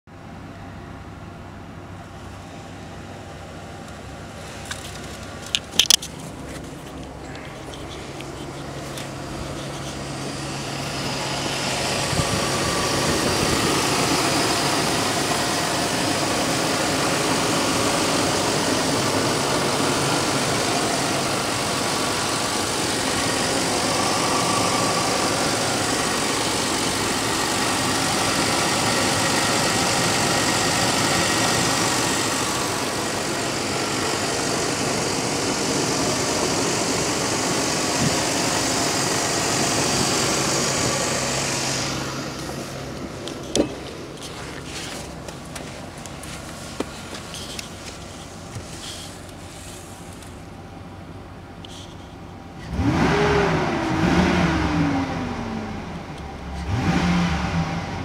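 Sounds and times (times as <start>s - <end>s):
truck engine idling: 0.1s - 52.6s.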